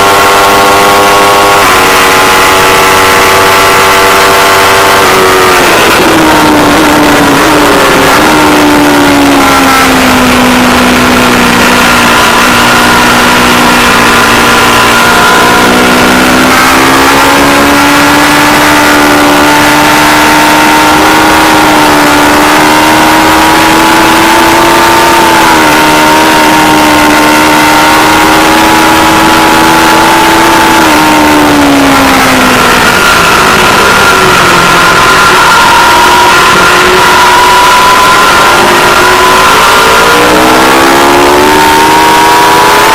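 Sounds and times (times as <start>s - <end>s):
motorcycle engine at speed: 0.0s - 42.9s
steady rush of noise: 0.0s - 42.9s.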